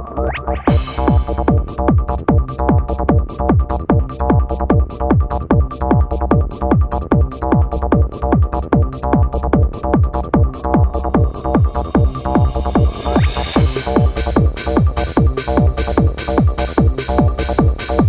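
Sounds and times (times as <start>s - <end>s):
electronic trance music: 0.0s - 18.0s.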